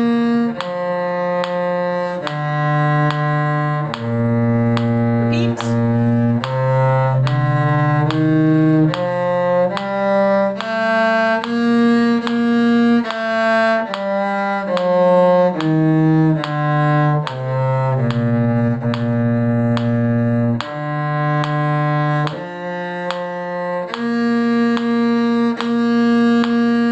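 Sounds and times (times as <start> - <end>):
cello playing a scale: 0.0 - 26.9.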